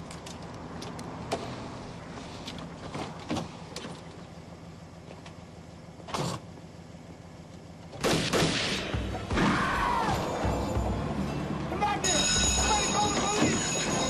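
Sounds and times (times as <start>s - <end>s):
low car hum: 0.0s - 14.0s.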